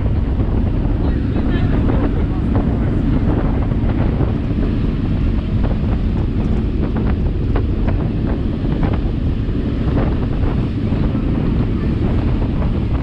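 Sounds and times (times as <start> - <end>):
boat engine rumble: 0.0 - 13.0
rush of churning wake: 0.0 - 13.0
wind buffeting microphone: 0.0 - 13.0.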